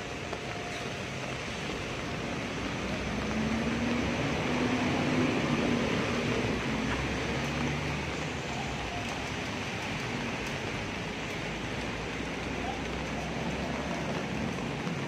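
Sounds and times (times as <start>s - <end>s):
rain on wet pavement: 0.0s - 15.0s.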